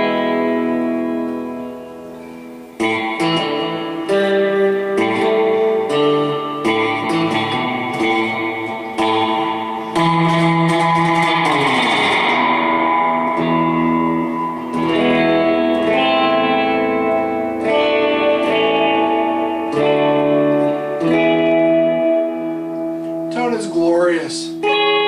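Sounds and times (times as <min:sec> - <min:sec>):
electric guitar chords strummed: 0:00.0 - 0:25.0.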